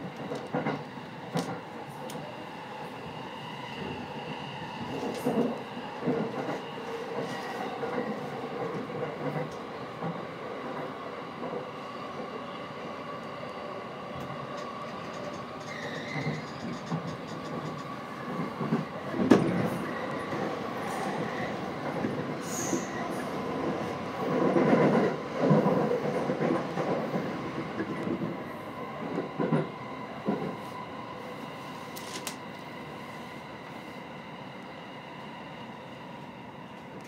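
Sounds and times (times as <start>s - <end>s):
train wheels rumbling on rail: 0.0s - 33.1s
faint train whine: 0.0s - 37.0s.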